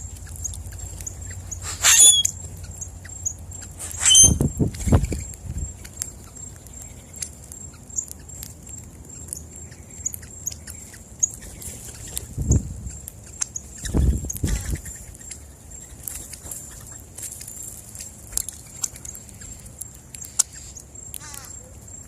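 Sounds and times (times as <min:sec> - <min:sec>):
birds chirping and clicking: 0:00.0 - 0:22.0.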